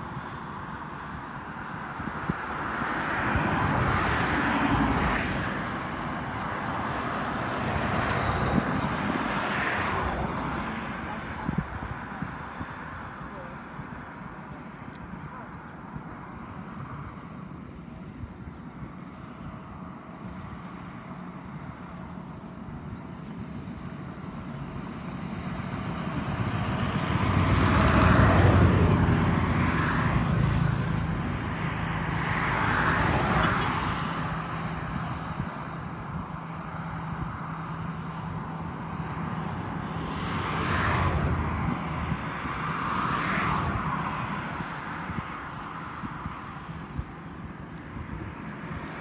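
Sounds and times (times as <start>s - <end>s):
steady engine hum: 0.0s - 49.0s
vehicles passing by: 0.0s - 49.0s.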